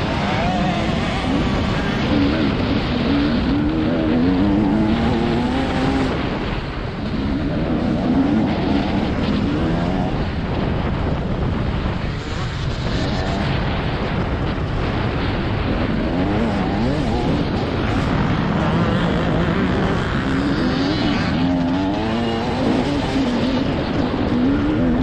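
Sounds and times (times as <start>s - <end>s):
motocross bike engine revving: 0.0s - 10.6s, 12.2s - 25.0s.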